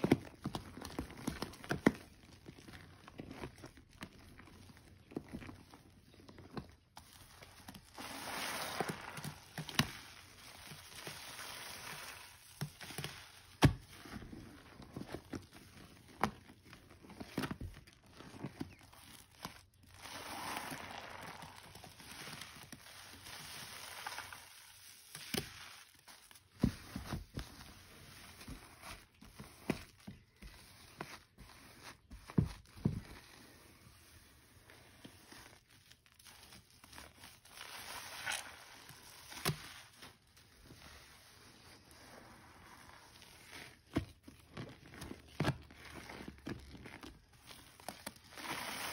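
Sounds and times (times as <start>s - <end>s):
soapy sponges squelching: 0.0s - 48.9s.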